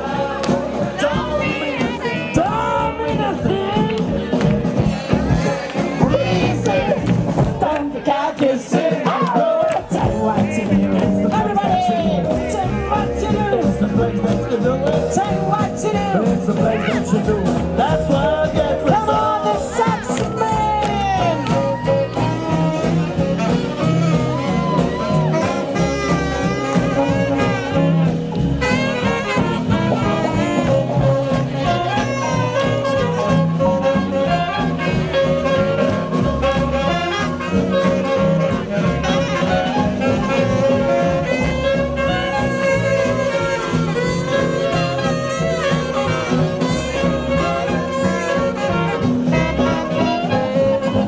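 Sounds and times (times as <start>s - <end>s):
saxophone: 0.0s - 8.4s, 9.0s - 51.0s
swing jazz band playing: 0.0s - 51.0s
trumpet: 0.0s - 51.0s.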